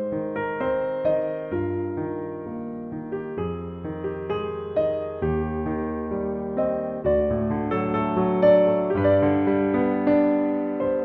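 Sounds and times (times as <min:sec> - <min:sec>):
soft piano melody with bass: 0:00.0 - 0:11.0.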